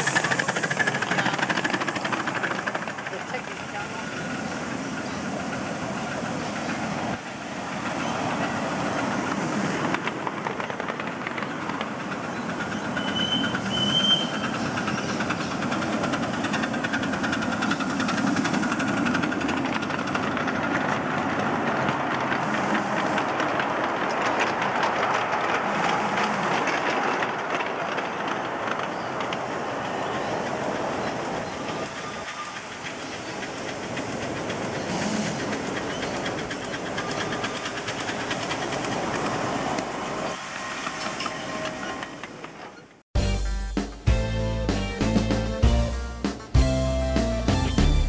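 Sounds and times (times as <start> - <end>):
steam exhaust chuffing: 0.0 - 28.3, 30.6 - 40.8
wheels clattering on rails: 0.0 - 43.0.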